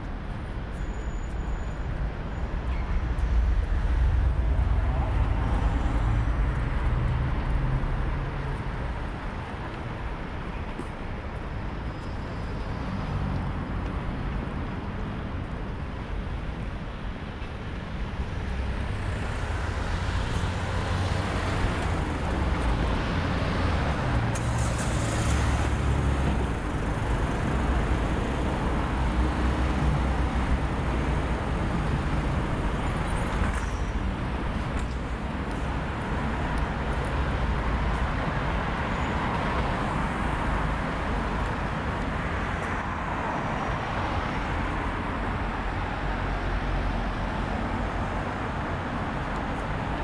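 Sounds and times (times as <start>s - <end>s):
car engines passing: 2.2s - 10.9s, 17.2s - 50.0s.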